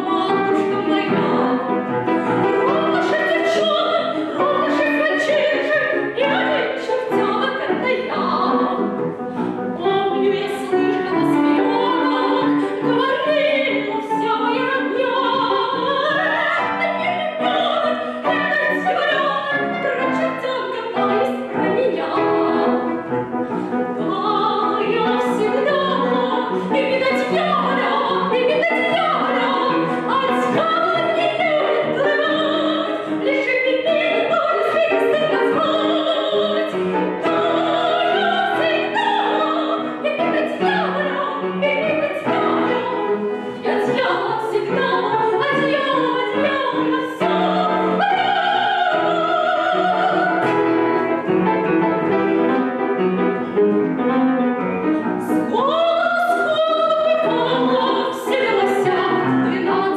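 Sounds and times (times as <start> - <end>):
soprano singing with vibrato: 0.0 - 51.7, 55.1 - 59.9
piano: 0.0 - 59.9.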